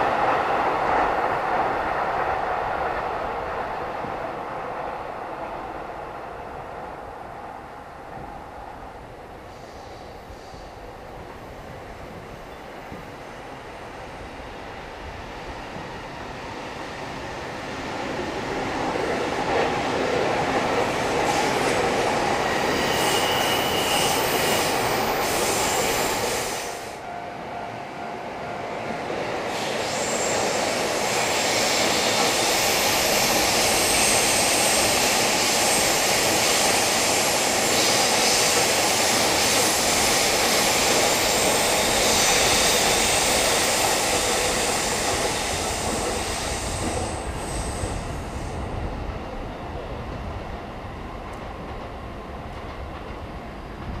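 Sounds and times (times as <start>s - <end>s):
trains running past: 0.0s - 54.0s.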